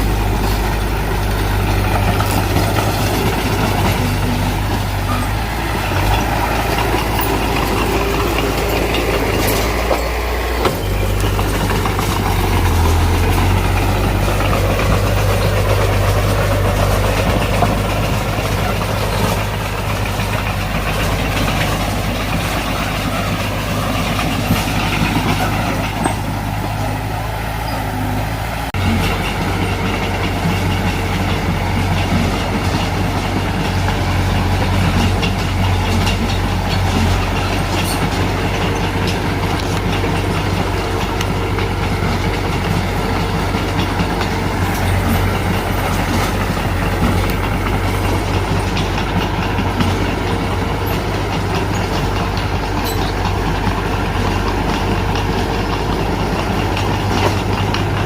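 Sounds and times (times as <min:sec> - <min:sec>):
rapid irregular machine clatter: 0:00.0 - 0:27.2, 0:28.8 - 0:58.0
bulldozer diesel engine running: 0:00.0 - 0:58.0.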